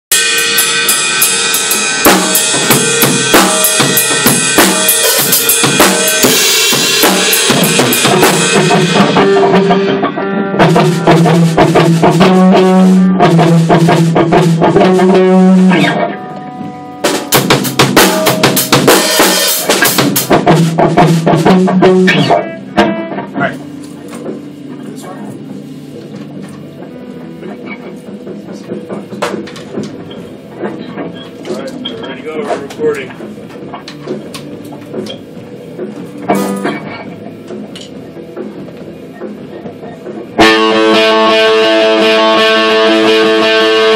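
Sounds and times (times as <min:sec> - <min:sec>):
rock band playing loudly: 0:00.1 - 0:31.4, 0:32.4 - 0:43.9
drum kit with cymbals and snare: 0:00.1 - 0:43.9.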